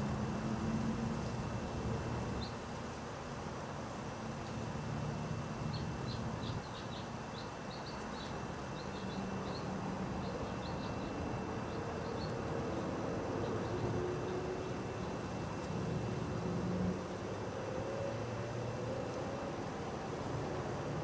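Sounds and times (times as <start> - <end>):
distant traffic hum: 0.0 - 21.0.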